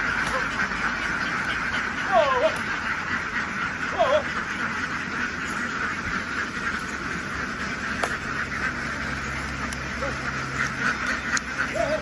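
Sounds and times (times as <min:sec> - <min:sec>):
ducks quacking: 0:00.0 - 0:12.0
low engine hum: 0:00.0 - 0:12.0.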